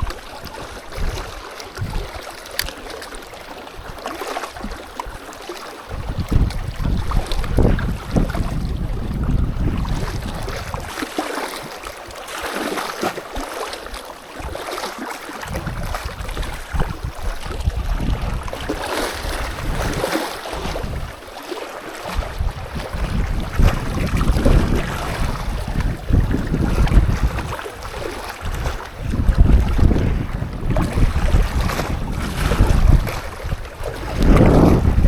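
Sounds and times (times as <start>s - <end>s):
wind buffeting microphone: 0.0s - 5.3s, 5.9s - 11.0s, 15.4s - 21.2s, 22.0s - 35.0s.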